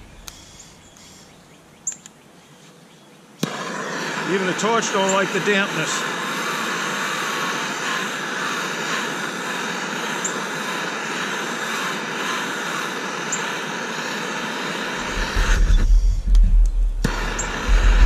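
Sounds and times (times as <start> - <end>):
gas torch hissing: 3.4 - 18.0.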